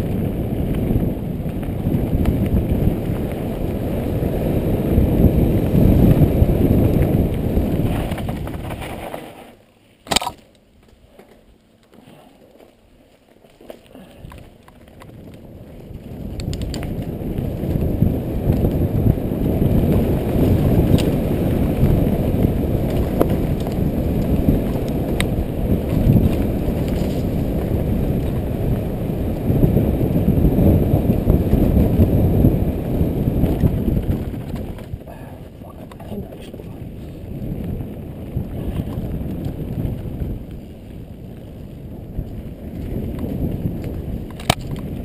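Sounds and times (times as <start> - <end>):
bike clicks and rattles: 0.0 - 4.3, 4.9 - 35.1, 35.8 - 45.0
wind rumble on microphone: 0.0 - 9.5, 13.5 - 45.0
tyres on dirt: 0.0 - 45.0.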